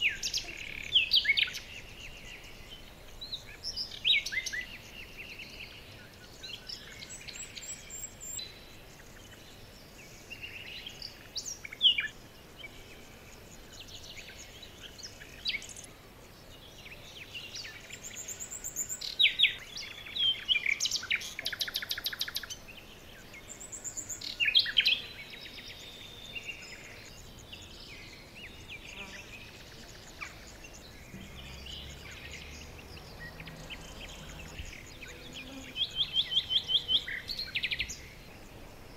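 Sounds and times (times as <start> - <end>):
faint steady hiss: 0.0 - 38.9
songbirds chirping and trilling: 0.0 - 38.9.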